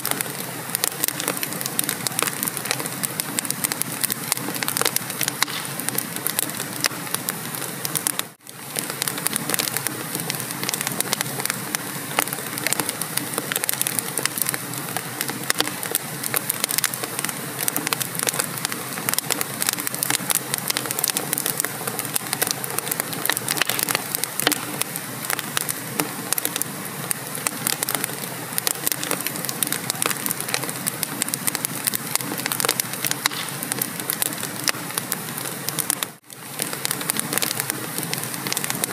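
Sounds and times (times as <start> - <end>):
constant fire hiss: 0.0 - 38.9
fireplace fire crackling and popping: 0.0 - 38.9.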